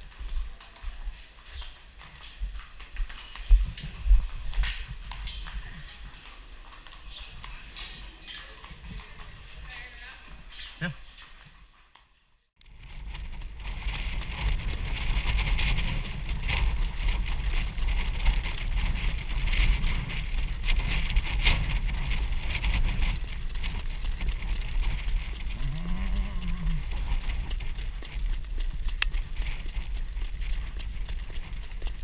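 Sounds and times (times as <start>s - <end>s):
wind rumbling on microphone: 0.0s - 10.8s, 12.6s - 32.0s
horse hooves on dirt: 0.0s - 32.0s
wheels on dirt track: 0.0s - 32.0s.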